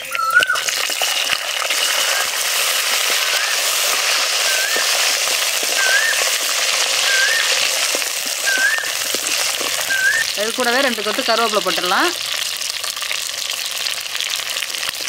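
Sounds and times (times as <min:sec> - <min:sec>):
garlic sizzling in hot oil: 0:00.0 - 0:15.0
mustard seeds crackling: 0:00.1 - 0:15.0.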